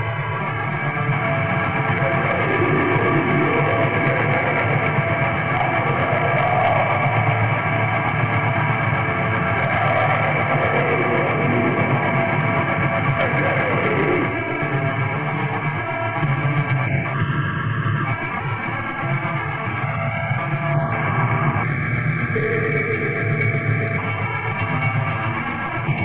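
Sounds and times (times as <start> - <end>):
distorted guitar wall: 0.0 - 26.0.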